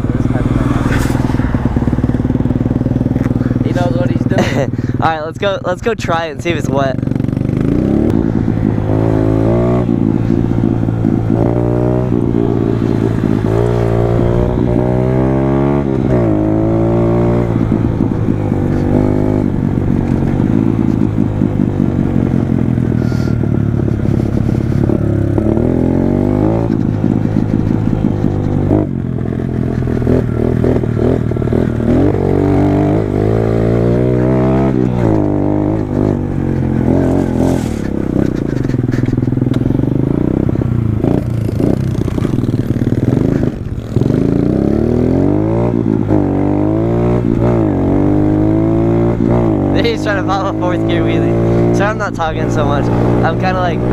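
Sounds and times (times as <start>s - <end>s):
pit bike engine revving: 0.0s - 53.9s.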